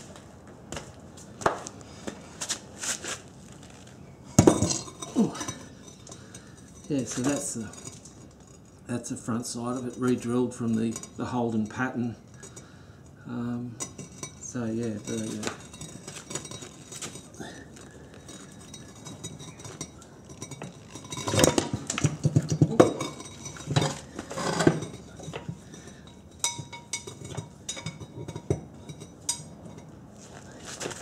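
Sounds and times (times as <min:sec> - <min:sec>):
metal clinks and clanks: 0:04.4 - 0:12.8, 0:13.8 - 0:31.0.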